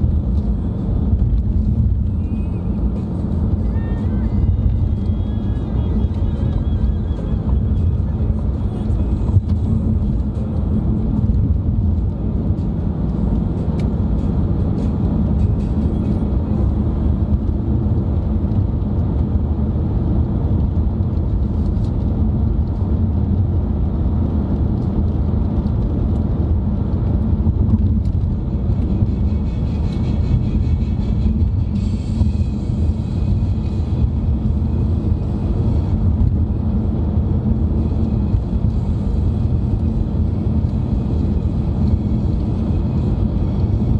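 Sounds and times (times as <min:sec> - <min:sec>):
car road and engine noise: 0:00.0 - 0:43.9.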